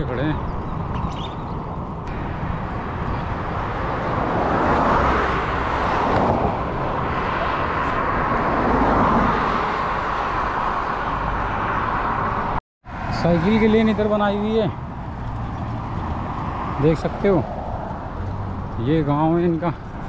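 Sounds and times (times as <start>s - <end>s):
highway traffic passing: 0.0s - 20.0s.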